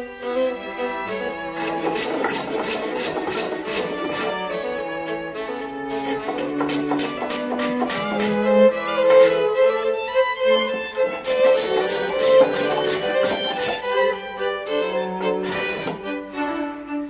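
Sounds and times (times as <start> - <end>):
violin and bowed strings music: 0.0 - 17.0.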